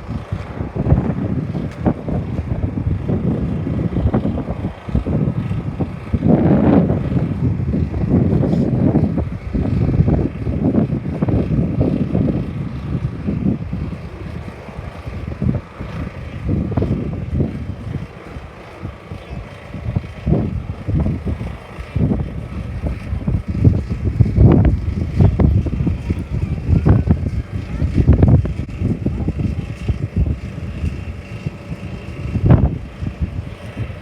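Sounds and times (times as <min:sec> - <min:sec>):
gusty wind buffeting microphone: 0:00.0 - 0:34.0.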